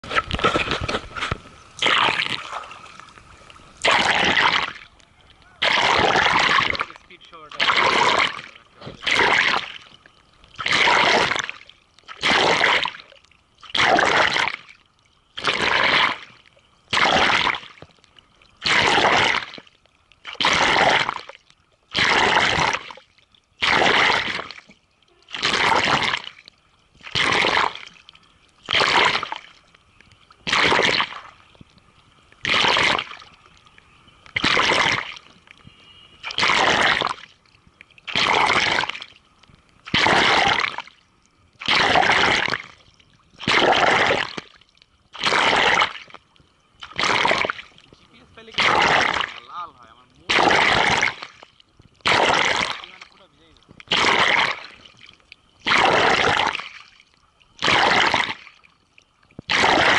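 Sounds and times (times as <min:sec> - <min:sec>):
paddle swishing and splashing: 0:00.0 - 0:05.0, 0:05.6 - 0:10.0, 0:10.6 - 0:14.8, 0:15.4 - 0:17.8, 0:18.6 - 0:21.4, 0:22.0 - 0:29.6, 0:30.4 - 0:31.4, 0:32.4 - 0:33.4, 0:34.4 - 0:37.4, 0:38.0 - 0:39.2, 0:39.8 - 0:41.0, 0:41.6 - 0:46.0, 0:46.8 - 0:57.0, 0:57.6 - 0:58.6
water trickling off paddle: 0:00.0 - 0:59.9.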